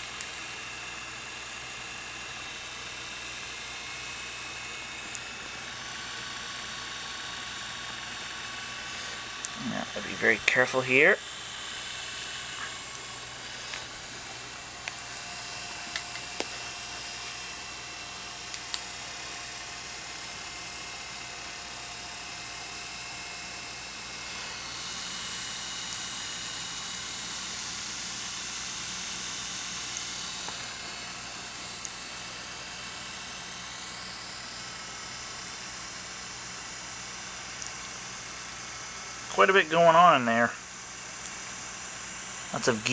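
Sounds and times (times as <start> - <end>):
projector gears whirring: 0.0 - 39.4
film projector motor humming: 0.0 - 42.9.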